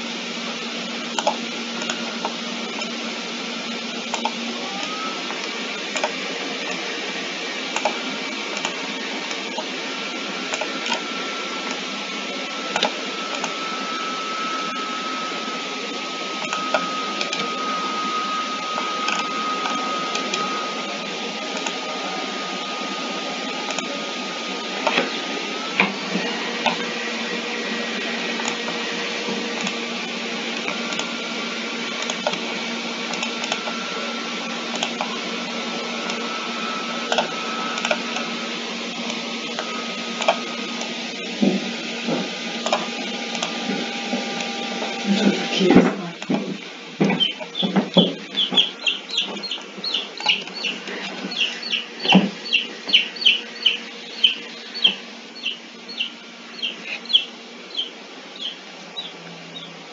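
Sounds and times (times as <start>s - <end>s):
computer hum and hiss: 0.0s - 59.9s
thin whine: 0.0s - 59.9s.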